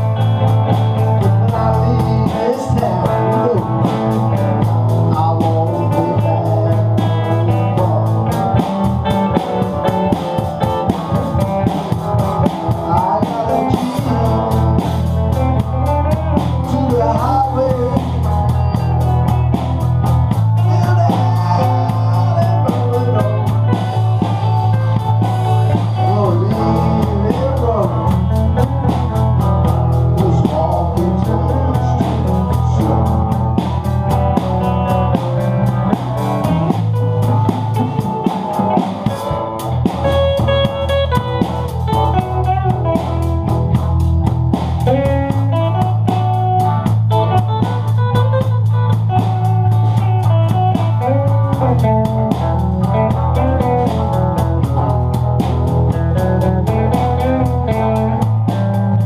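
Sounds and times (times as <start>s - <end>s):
bass notes: 0.0s - 59.0s
drums: 0.0s - 59.0s
lead guitar: 0.0s - 59.0s.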